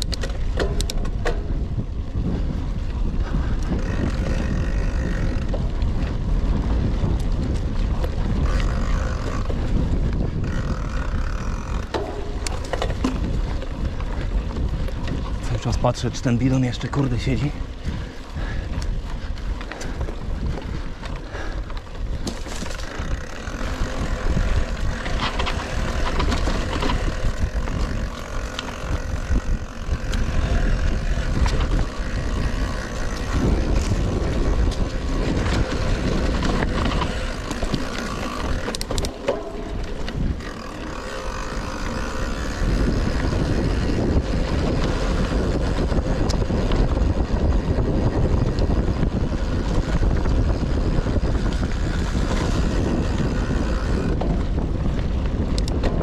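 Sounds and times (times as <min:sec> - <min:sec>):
bike clicks and knocks: 0:00.0 - 0:56.0
bike tyres rumbling on trail: 0:00.0 - 0:56.0
wind on microphone: 0:00.0 - 0:56.0.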